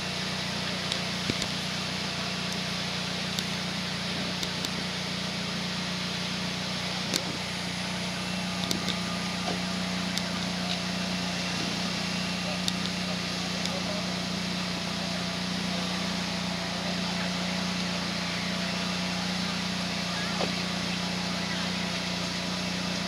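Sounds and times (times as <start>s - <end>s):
constant low hum: 0.0s - 23.0s.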